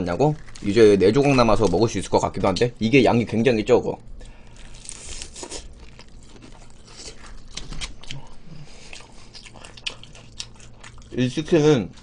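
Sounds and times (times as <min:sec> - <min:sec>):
crunchy fried chicken chewing: 0:00.0 - 0:02.0, 0:04.1 - 0:12.0.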